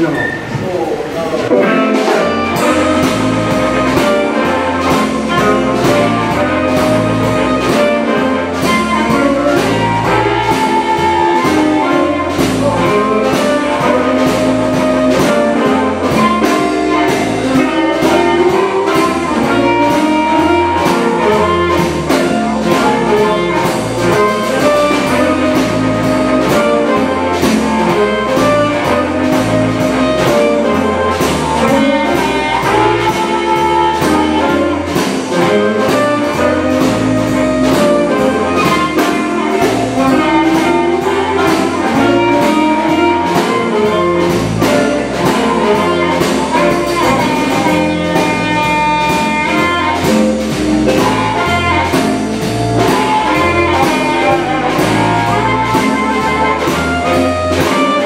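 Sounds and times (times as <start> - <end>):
electric bass: 0.0 - 58.0
steady drum beat: 0.0 - 58.0
electric guitar: 1.4 - 58.0
harmonica: 1.5 - 58.0.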